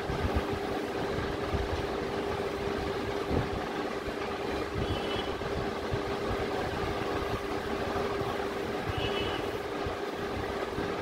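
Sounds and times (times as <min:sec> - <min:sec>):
mechanical hum and rumble: 0:00.0 - 0:11.0.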